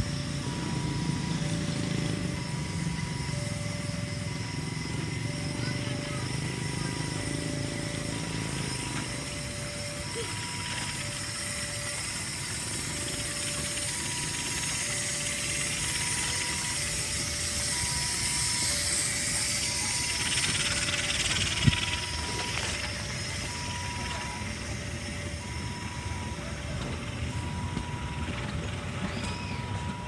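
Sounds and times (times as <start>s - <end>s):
two-tone electronic warning alarm: 0.0s - 30.0s.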